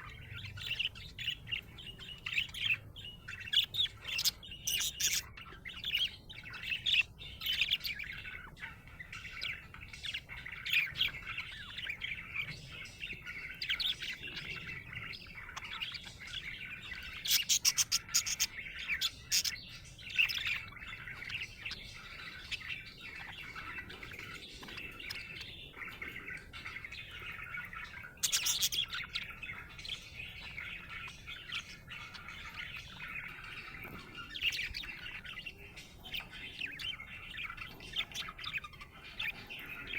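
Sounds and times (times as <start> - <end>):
budgie chirping and warbling: 0.0 - 39.9.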